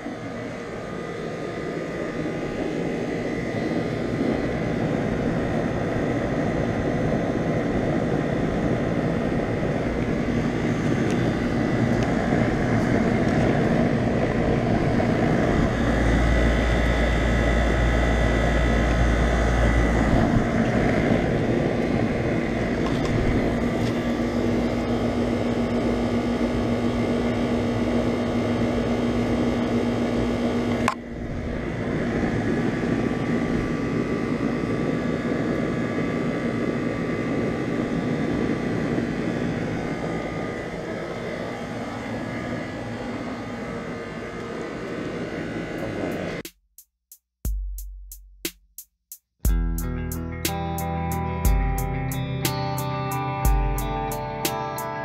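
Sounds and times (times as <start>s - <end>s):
air conditioner compressor hum: 0.0s - 46.5s, 49.5s - 55.0s
fan rushing air: 0.0s - 46.5s, 49.4s - 55.0s.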